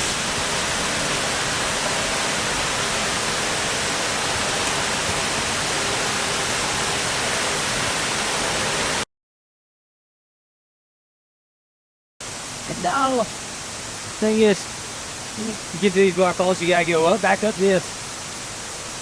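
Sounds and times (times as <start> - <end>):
waterfall roaring: 0.0 - 9.0, 12.2 - 19.0.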